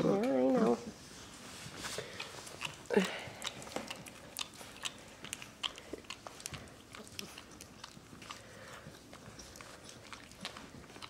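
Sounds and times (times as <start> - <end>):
puppies play-fighting: 0.0 - 11.0.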